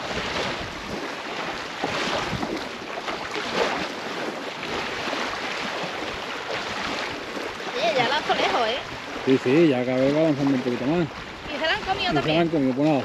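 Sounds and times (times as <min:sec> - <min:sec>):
small waves washing on shore: 0:00.0 - 0:13.0
wind noise on microphone: 0:00.0 - 0:13.0.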